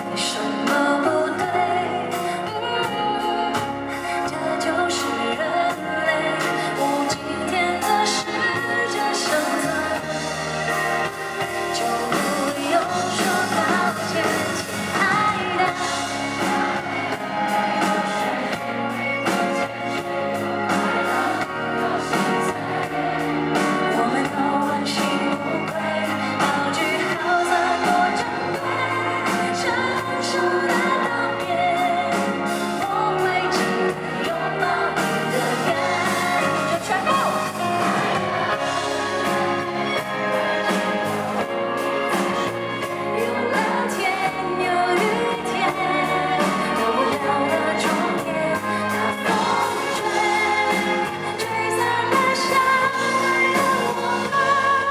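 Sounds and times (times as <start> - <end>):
instrumental backing music: 0.0 - 54.9
woman singing pop song: 0.0 - 54.9.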